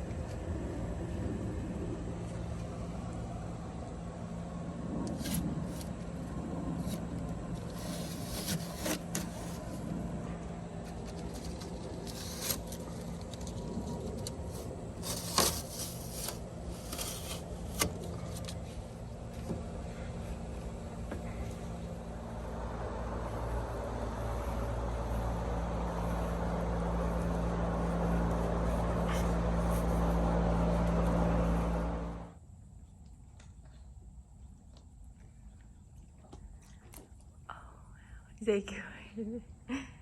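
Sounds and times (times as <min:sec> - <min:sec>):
engine running: 0:00.0 - 0:32.4.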